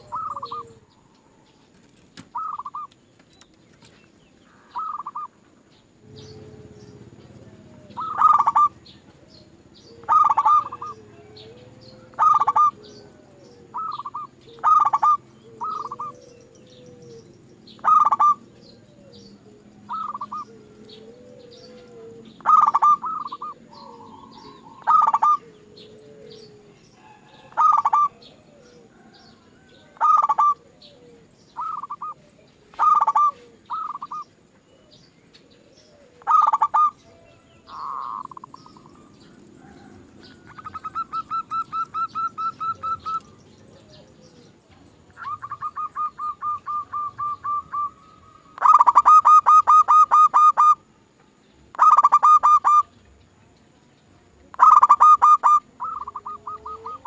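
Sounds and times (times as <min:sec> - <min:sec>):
dove cooing: 0:00.0 - 0:03.0, 0:04.5 - 0:51.1, 0:51.7 - 0:52.9, 0:54.4 - 0:57.0.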